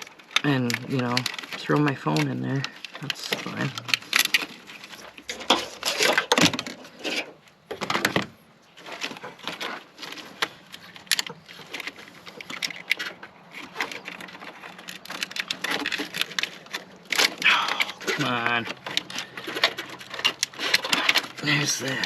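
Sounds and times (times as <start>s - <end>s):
hands handling plastic hose: 0.0s - 22.0s.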